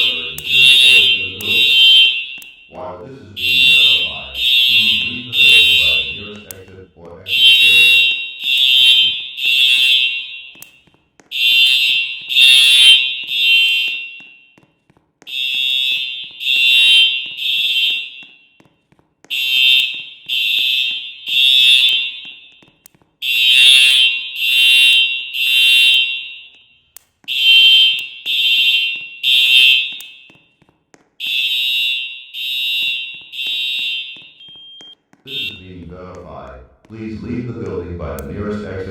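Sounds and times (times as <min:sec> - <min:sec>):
fire alarm beeping: 0:00.0 - 0:14.6, 0:15.3 - 0:18.6, 0:19.3 - 0:36.1.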